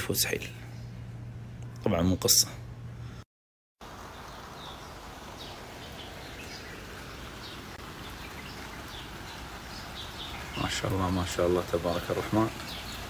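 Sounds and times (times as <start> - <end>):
birds chirping: 0.0 - 3.2, 3.8 - 13.0
outdoor background hiss: 0.0 - 3.2, 3.8 - 13.0.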